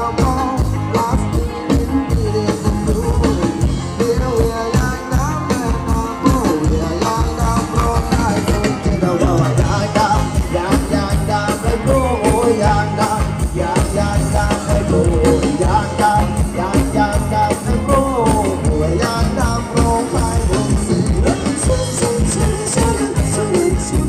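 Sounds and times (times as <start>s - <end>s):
live dance band playing: 0.0s - 24.0s
person singing melody: 0.0s - 24.0s
steady drum beat: 0.0s - 24.0s.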